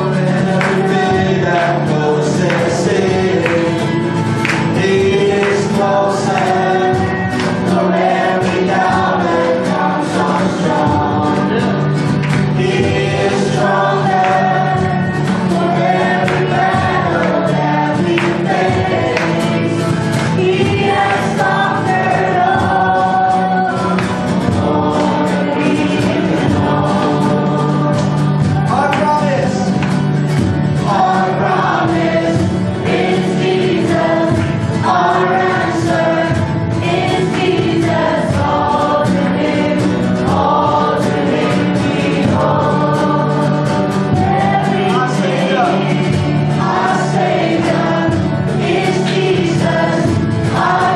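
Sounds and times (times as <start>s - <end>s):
choir and congregation singing: 0.0s - 50.9s
instrumental accompaniment: 0.0s - 50.9s.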